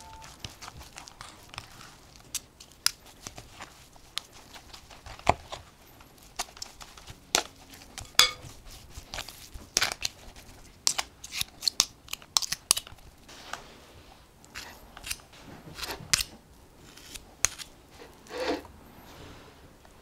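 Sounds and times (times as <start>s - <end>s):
dough tearing: 0.0s - 13.3s, 14.5s - 17.8s.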